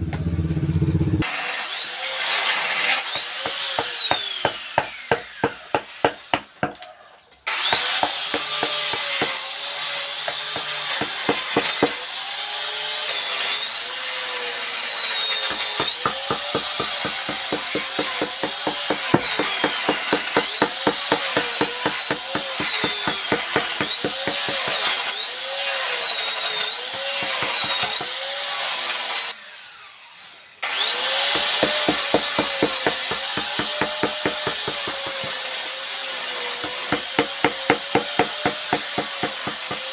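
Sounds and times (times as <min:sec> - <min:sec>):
electric carving tool whine: 0:01.2 - 0:06.7, 0:07.5 - 0:39.9.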